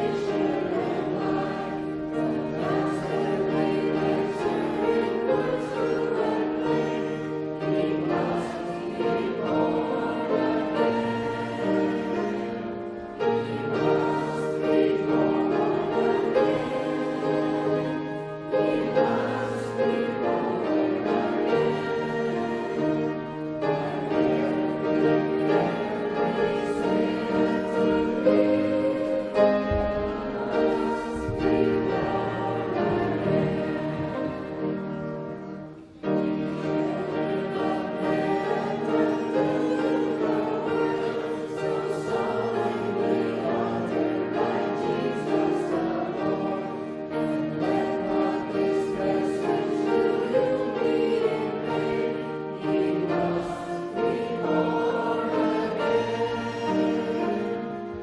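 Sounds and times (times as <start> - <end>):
group singing a hymn: 0.0 - 58.0
instrumental accompaniment: 0.0 - 58.0.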